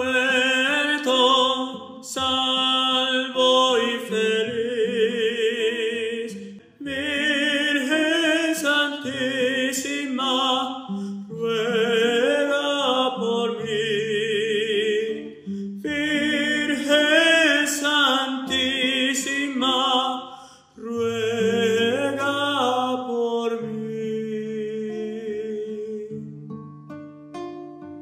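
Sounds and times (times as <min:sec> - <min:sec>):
man singing with vibrato: 0:00.0 - 0:26.3
classical guitar: 0:00.0 - 0:28.0.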